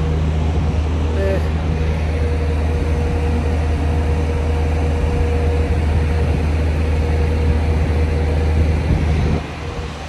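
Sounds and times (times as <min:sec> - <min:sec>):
diesel truck engine idling: 0:00.0 - 0:10.0
faint constant hum: 0:00.0 - 0:10.0.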